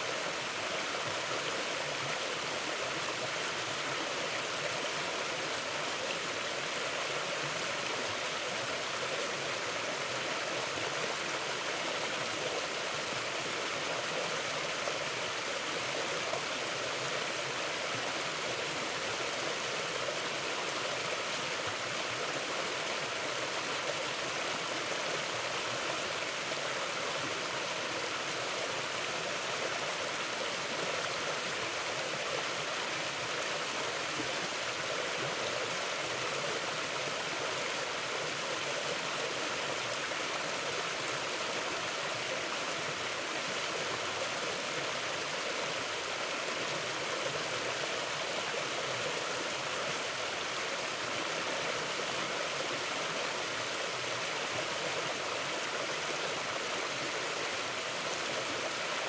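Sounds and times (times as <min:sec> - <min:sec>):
water flowing over rocks: 0:00.0 - 0:59.0.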